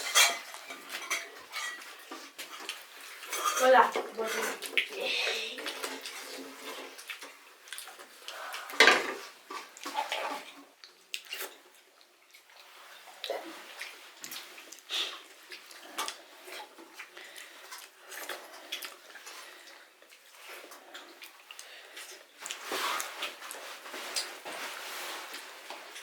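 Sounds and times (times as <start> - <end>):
chewing: 0.0 - 3.6, 4.3 - 26.0.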